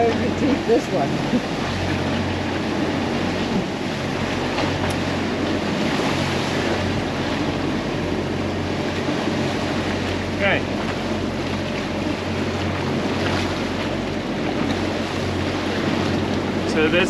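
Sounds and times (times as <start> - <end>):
sea water rushing and churning: 0.0 - 17.0
steady low hum: 0.0 - 17.0.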